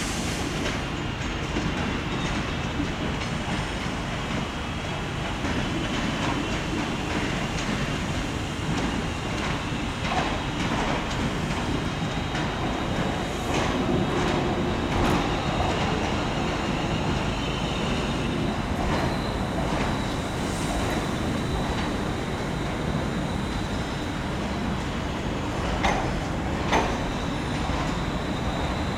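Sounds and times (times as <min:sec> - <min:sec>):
train running noise: 0:00.0 - 0:28.9
train wheels clicking over rail joints: 0:05.2 - 0:28.9.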